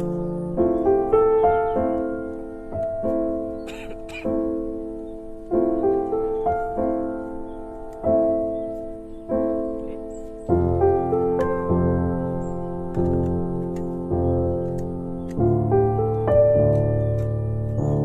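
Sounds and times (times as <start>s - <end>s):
slow gentle piano chords: 0.0s - 18.0s.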